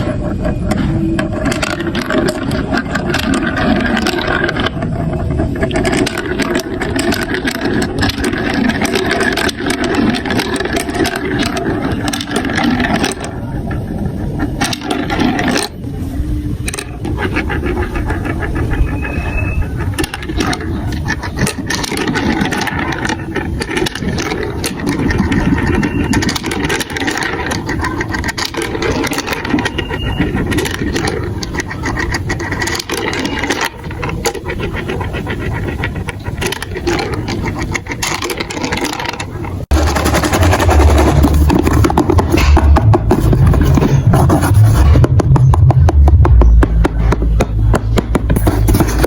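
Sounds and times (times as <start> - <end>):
marbles clicking against blocks: 0.0 - 44.4
marbles rolling on plastic track: 0.0 - 44.5.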